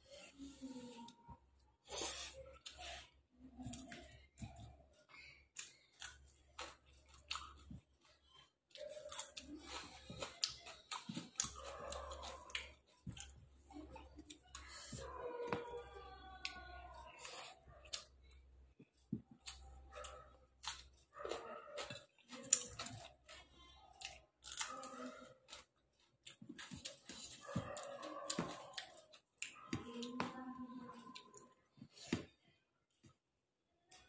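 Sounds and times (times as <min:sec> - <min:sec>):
wet chewing with mouth clicks: 0:00.0 - 0:33.2.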